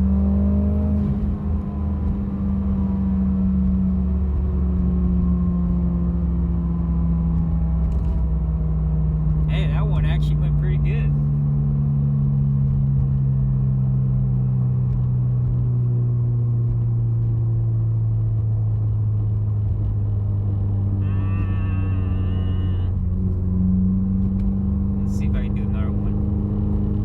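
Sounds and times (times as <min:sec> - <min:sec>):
car engine driving: 0:00.0 - 0:27.0.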